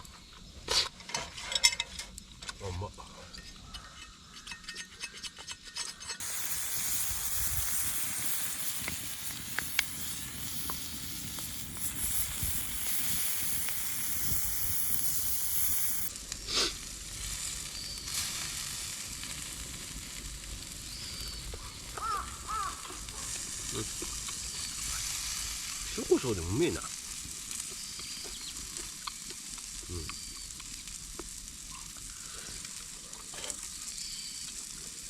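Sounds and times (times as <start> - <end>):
offal sizzling on a griddle: 6.2 - 35.0.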